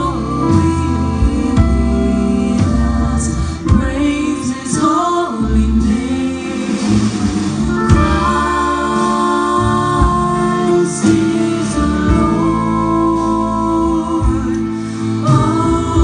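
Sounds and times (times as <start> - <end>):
women singing in close harmony: 0.0 - 7.1, 7.7 - 16.0
double bass: 0.0 - 16.0
guitar: 0.0 - 16.0.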